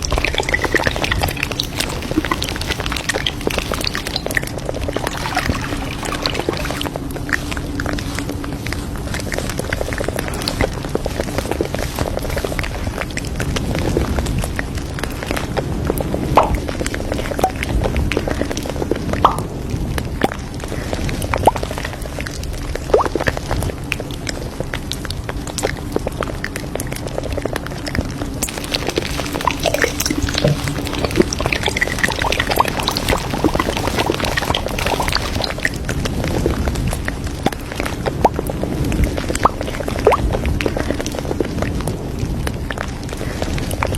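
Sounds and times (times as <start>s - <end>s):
background noise: 0.0s - 43.9s.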